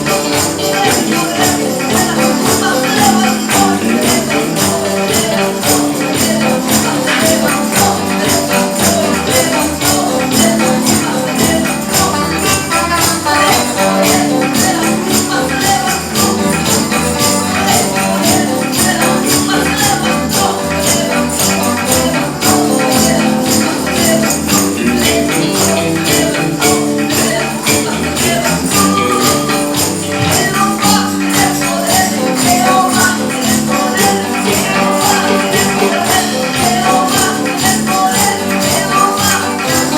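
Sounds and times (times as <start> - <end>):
busy percussion beat: 0.0 - 39.9
gospel band music: 0.0 - 39.9.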